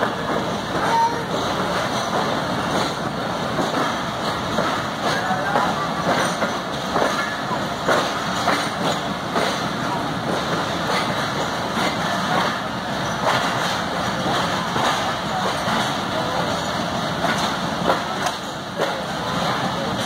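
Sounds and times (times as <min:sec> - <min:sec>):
train running gear rumble: 0:00.0 - 0:20.0
train wheels clacking over rail joints: 0:00.0 - 0:20.0.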